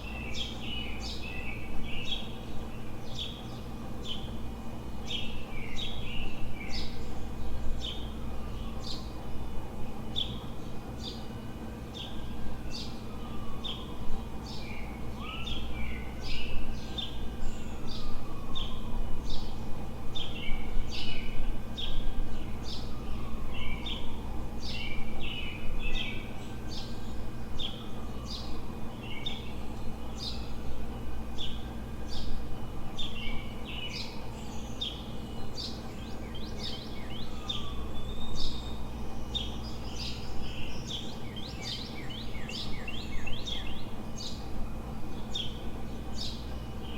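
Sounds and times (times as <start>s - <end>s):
low city hum: 0.0s - 46.9s
songbirds chirping and singing: 0.0s - 46.9s.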